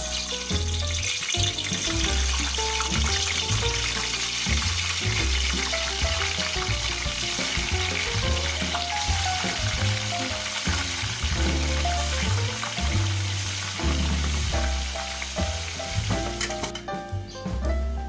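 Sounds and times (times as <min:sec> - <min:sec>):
meat deep-frying in oil: 0:00.0 - 0:17.6
background music with bass: 0:00.0 - 0:18.0.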